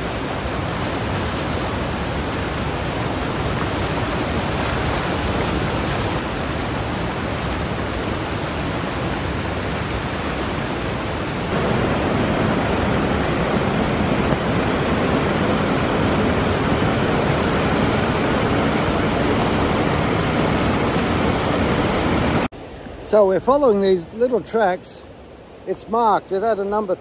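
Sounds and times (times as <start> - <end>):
river rapids rushing: 0.0 - 27.0.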